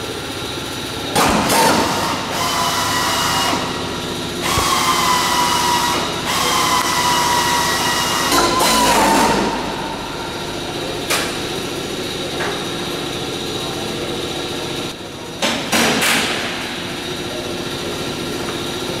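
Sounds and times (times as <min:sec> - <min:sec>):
steady hum: 0:00.0 - 0:15.6.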